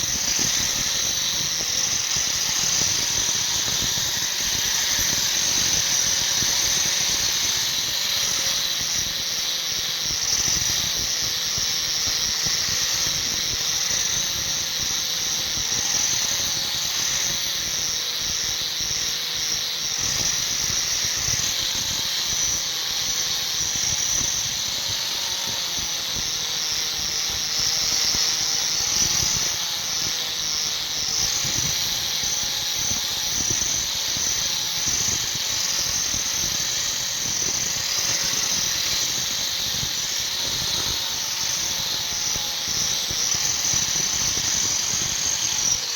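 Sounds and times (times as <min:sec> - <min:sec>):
power grinder squealing on steel: 0:00.0 - 0:45.9.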